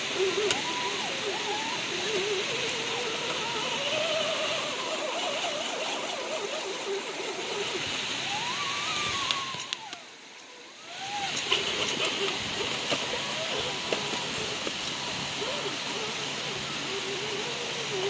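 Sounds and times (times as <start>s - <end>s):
electric motor and gears whining: 0.0s - 18.0s
steady hiss: 0.0s - 18.0s.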